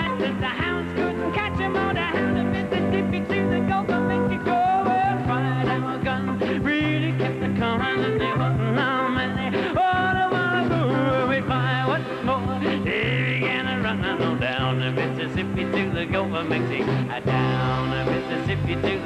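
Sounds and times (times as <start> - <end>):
bouncing bass line: 0.0 - 19.0
man singing: 0.0 - 19.0.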